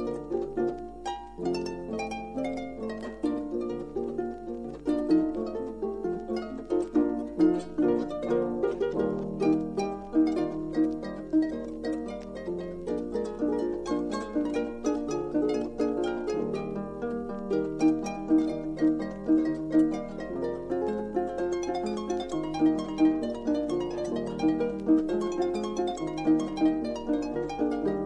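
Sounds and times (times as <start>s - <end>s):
solo harp folk tune: 0.0s - 28.0s.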